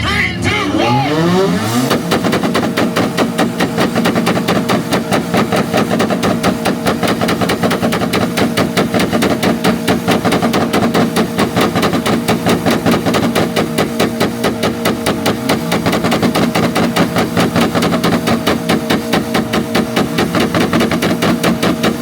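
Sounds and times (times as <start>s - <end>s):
car engines popping on launch limiters: 0.4s - 22.0s.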